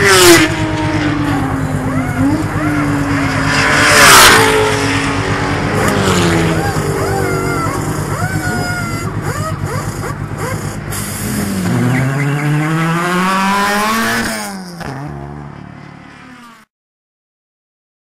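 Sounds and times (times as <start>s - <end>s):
race car engine accelerating: 0.0s - 16.6s.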